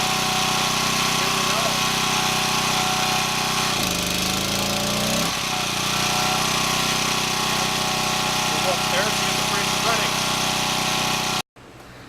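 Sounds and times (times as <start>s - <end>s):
generator engine running: 0.0s - 11.4s.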